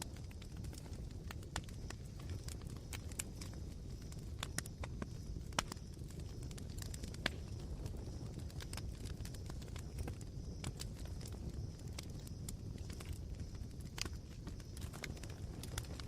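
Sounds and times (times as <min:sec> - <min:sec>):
campfire embers crackling: 0:00.0 - 0:16.0.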